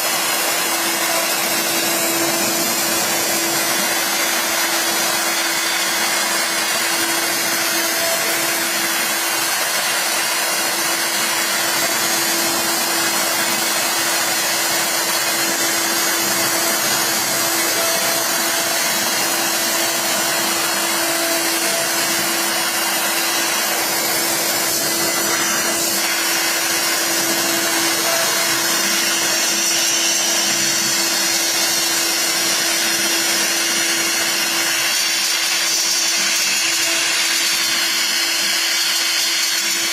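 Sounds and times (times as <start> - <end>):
bit cutting acrylic: 0.0 - 39.9
router spindle tone: 0.0 - 39.9.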